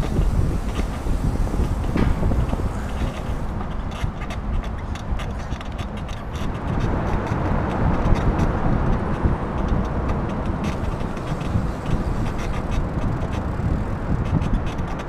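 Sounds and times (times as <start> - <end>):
tyres rolling on concrete: 0.0 - 15.0
wind buffeting microphone: 0.0 - 15.0.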